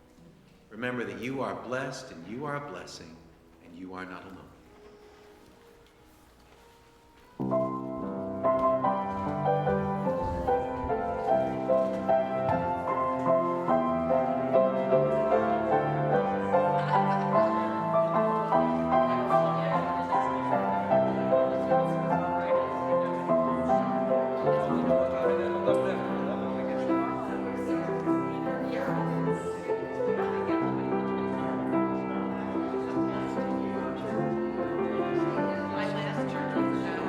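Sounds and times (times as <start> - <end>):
piano chords: 0.0 - 37.0.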